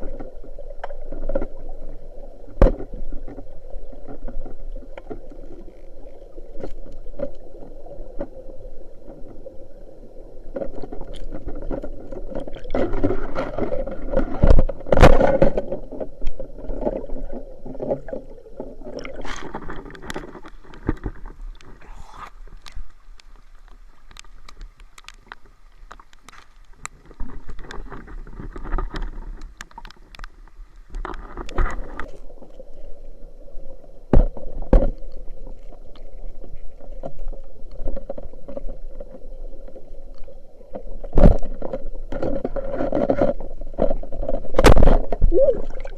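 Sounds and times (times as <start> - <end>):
water splashing and gurgling: 0.0 - 45.9.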